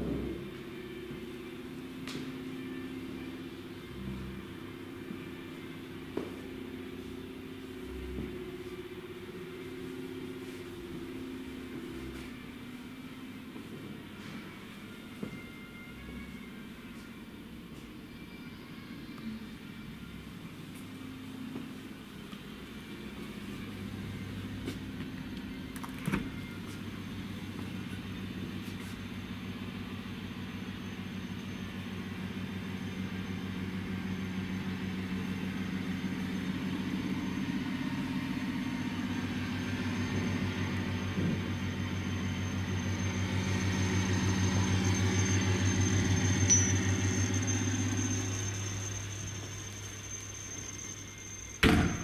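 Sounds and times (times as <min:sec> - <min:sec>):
faint high whine: 0:00.0 - 0:52.0
low droning hum: 0:00.0 - 0:52.0.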